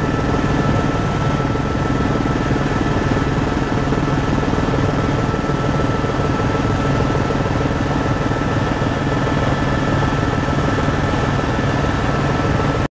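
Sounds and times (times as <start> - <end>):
helicopter engine and rotor drone: 0.0 - 12.9.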